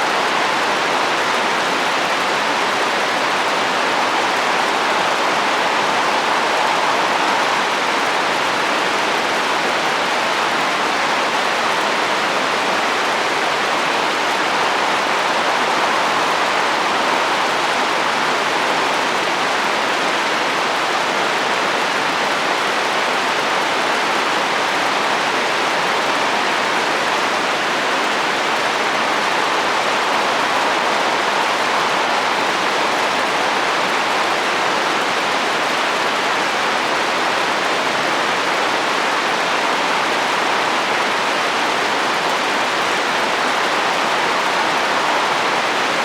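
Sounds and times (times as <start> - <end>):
rain on a roof: 0.0 - 46.0.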